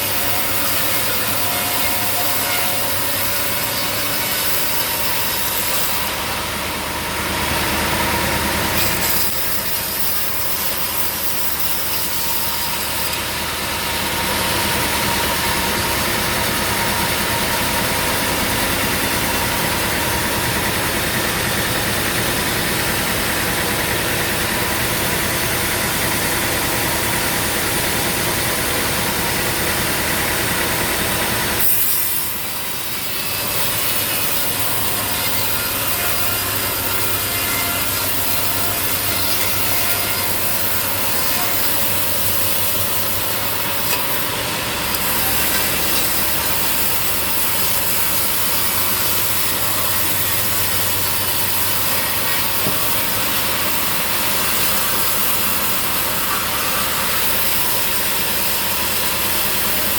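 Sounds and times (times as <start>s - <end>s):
saw blade cutting log: 0.0s - 59.9s
saw engine running: 0.0s - 59.9s.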